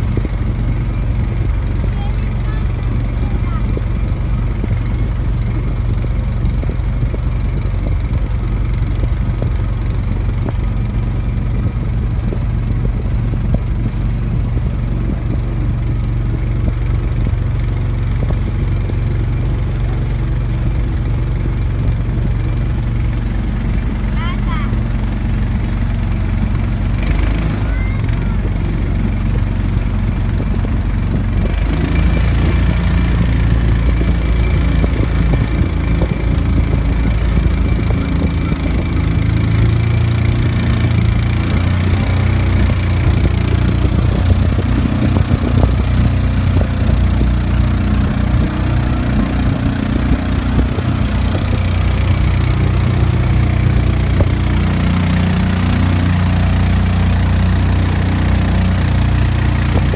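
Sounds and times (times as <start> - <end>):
motorboat engine running: 0.0 - 59.9
water rushing along hull: 0.0 - 59.9.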